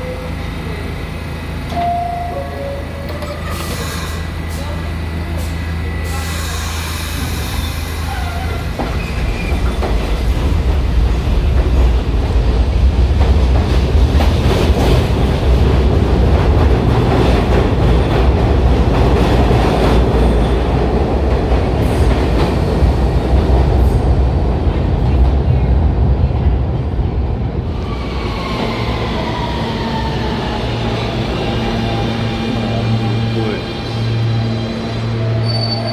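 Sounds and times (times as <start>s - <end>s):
subway train rumbling: 0.0s - 35.9s
wheels rattling on rail: 0.0s - 35.9s.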